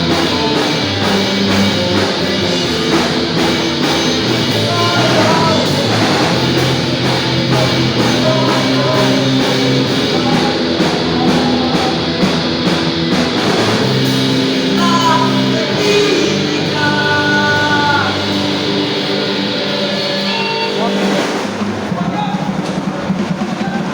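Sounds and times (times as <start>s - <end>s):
electric guitar: 0.0s - 23.9s
punk rock band playing: 0.0s - 23.9s.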